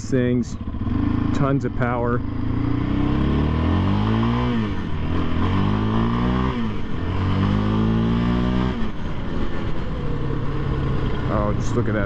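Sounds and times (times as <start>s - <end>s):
engine accelerating hard: 0.0s - 12.0s.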